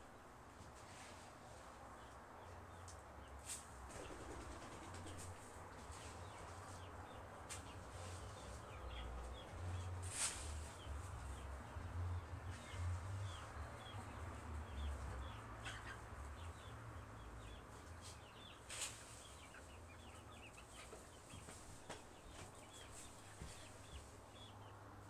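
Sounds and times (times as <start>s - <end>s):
chicken chirping softly: 0.6s - 25.0s.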